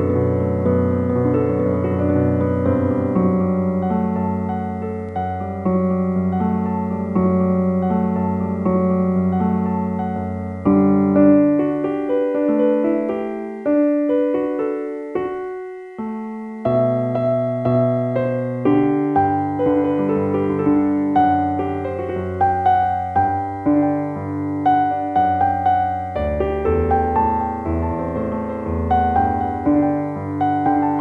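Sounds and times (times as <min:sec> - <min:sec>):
slow calm piano music: 0:00.0 - 0:31.0.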